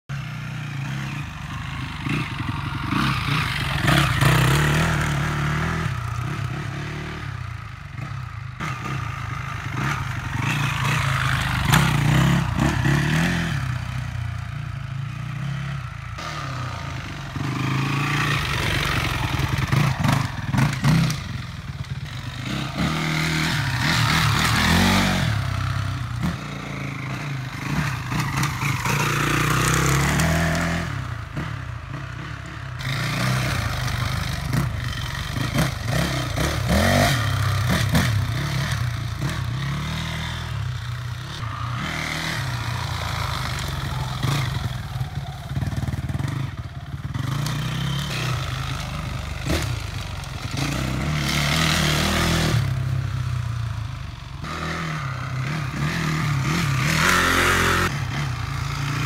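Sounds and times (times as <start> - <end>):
dirt bike engine revving: 0.1 - 53.7, 54.4 - 59.0.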